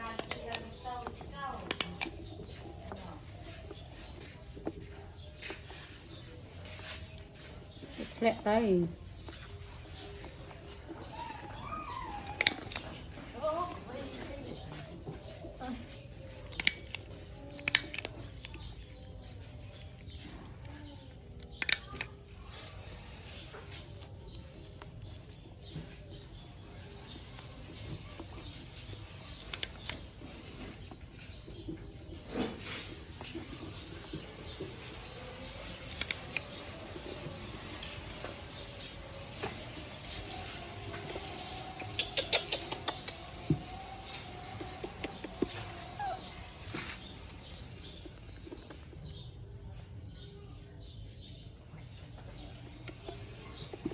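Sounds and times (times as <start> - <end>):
cricket chirping in trills: 0.0 - 53.9.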